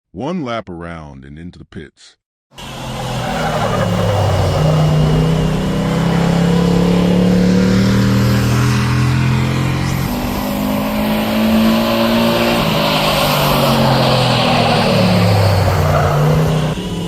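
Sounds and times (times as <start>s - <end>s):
race car engine at high revs: 2.5s - 17.0s
rising rush of noise: 2.6s - 17.0s.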